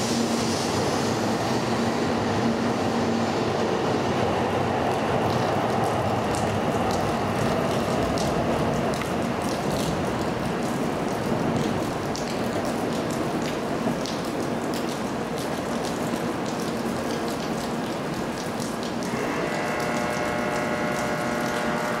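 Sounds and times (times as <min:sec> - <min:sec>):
train running noise with ticks: 0:00.0 - 0:22.0.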